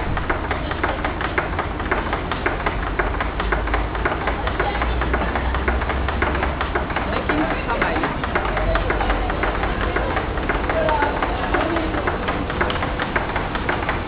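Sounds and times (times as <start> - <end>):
clattering knocks and clicks: 0.0 - 14.0
ride machinery rumbling: 0.0 - 14.0.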